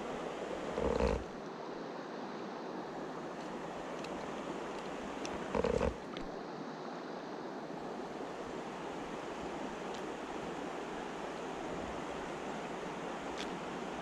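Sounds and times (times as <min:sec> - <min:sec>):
stream flowing over rocks: 0:00.0 - 0:01.5, 0:03.0 - 0:06.6, 0:07.8 - 0:14.0.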